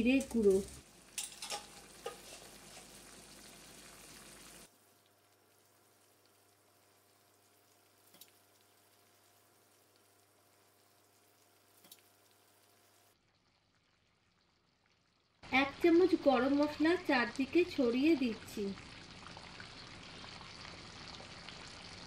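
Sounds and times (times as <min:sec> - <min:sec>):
curry simmering hiss: 0:00.0 - 0:13.2, 0:15.4 - 0:22.0.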